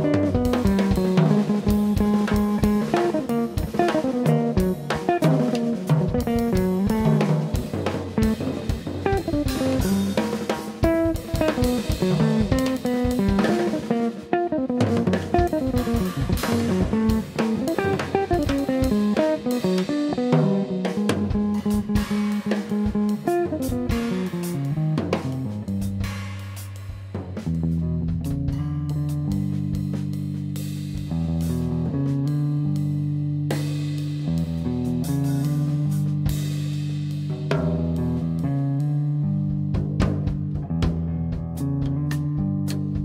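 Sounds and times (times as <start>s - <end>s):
electric guitar jazz line: 0.0s - 26.2s, 27.2s - 43.0s
drums and cymbals: 0.0s - 43.0s.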